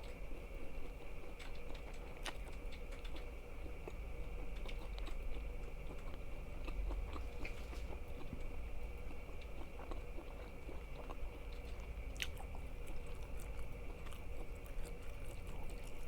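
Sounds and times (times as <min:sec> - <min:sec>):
chewing food close up: 0:00.0 - 0:16.0.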